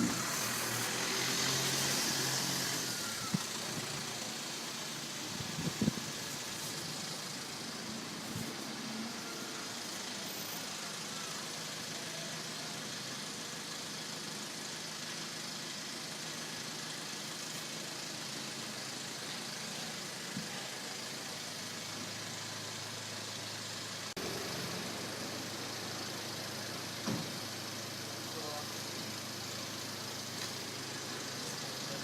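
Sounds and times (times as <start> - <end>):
city traffic hum: 0.0 - 32.0.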